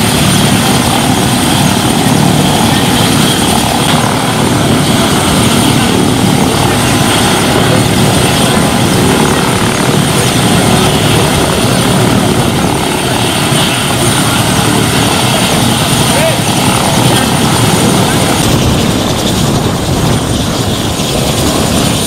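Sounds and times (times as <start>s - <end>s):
helicopter engines and rotor: 0.0s - 22.0s.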